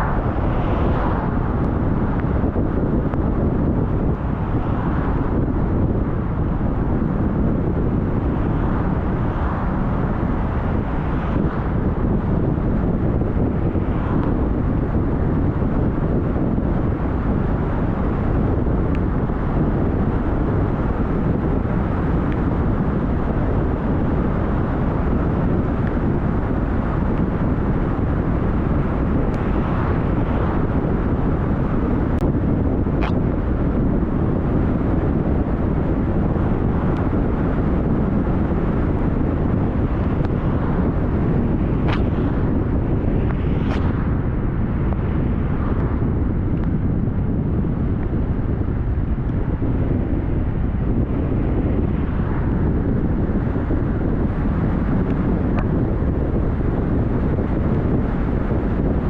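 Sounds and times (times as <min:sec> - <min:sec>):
car driving rumble: 0:00.0 - 0:59.0
road and wind noise: 0:00.0 - 0:59.0.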